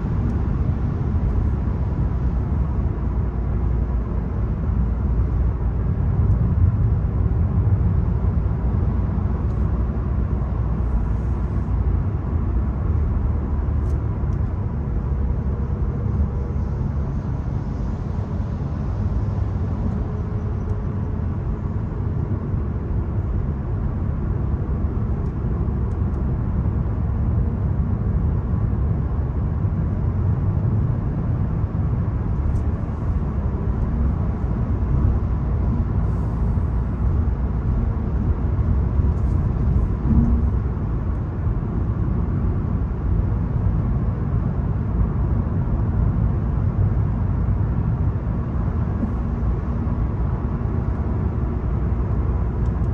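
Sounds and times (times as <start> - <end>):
car engine and tyre rumble: 0.0 - 52.9.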